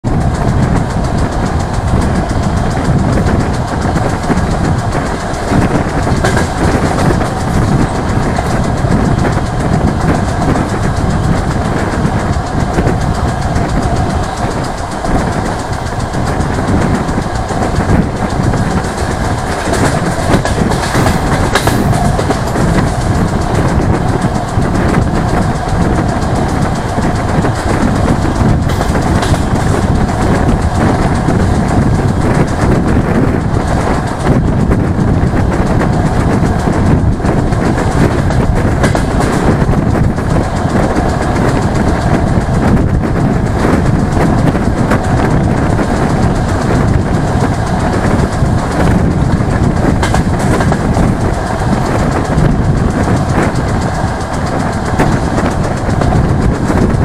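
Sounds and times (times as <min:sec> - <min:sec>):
sharp wheel clacks: 0:00.0 - 0:57.0
train wheels rumbling on rails: 0:00.0 - 0:57.0.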